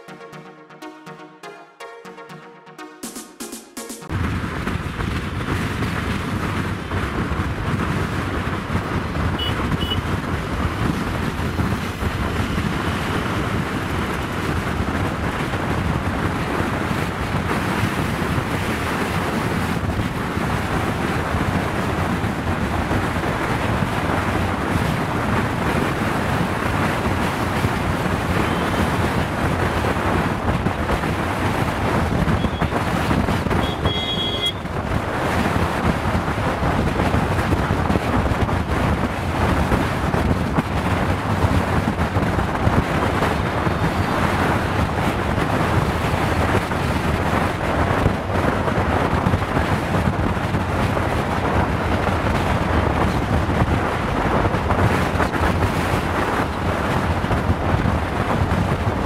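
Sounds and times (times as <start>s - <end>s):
motorcycle riding noise: 4.1s - 59.0s
passing traffic: 4.1s - 59.0s
wind rushing over microphone: 4.1s - 59.0s.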